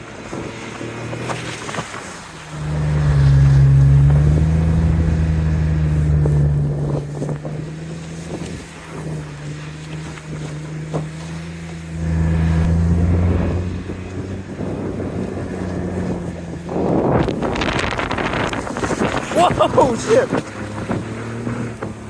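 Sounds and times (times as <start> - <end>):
car engine revving: 0.1 - 22.0.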